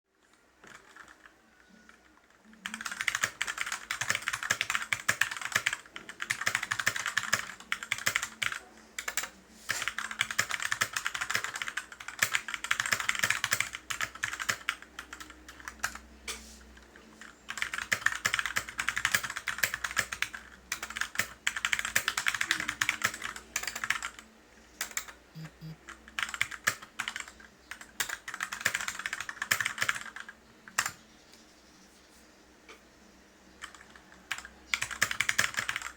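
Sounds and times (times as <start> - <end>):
typing on mechanical keyboard: 0.2 - 16.1, 16.8 - 31.0, 33.6 - 35.9.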